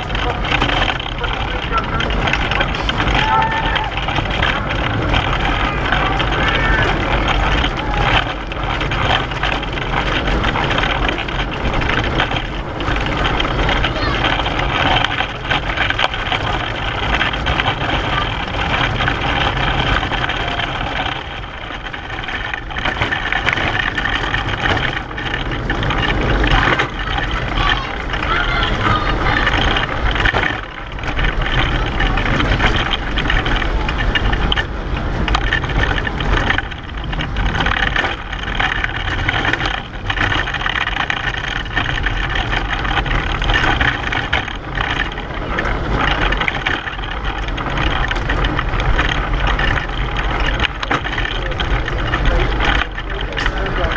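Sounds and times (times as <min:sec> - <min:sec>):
wheels rolling on road: 0:00.0 - 0:53.9.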